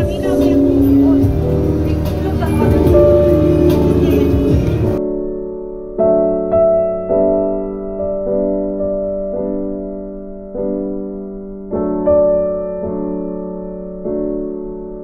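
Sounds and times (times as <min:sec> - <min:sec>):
slow soft piano chords: 0:00.0 - 0:15.0.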